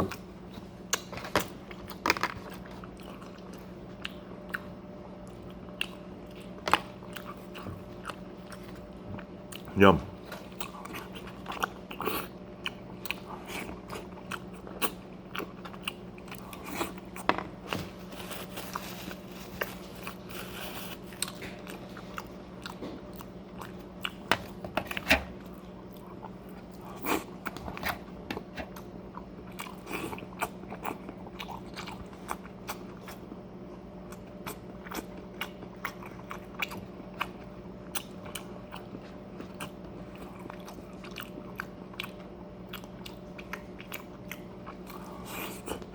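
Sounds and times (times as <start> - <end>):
faint steady hum: 0.0 - 45.9
person chewing crunchy food: 0.0 - 45.9.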